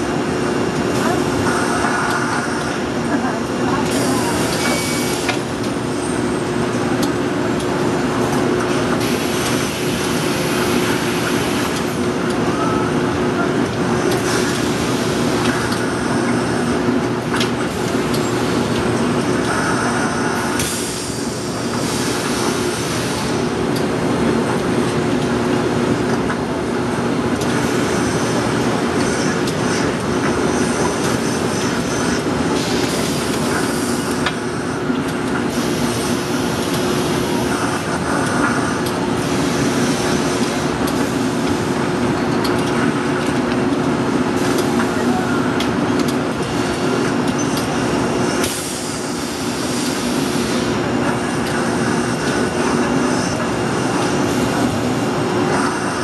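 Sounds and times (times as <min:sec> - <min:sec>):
machinery humming: 0:00.0 - 0:56.0.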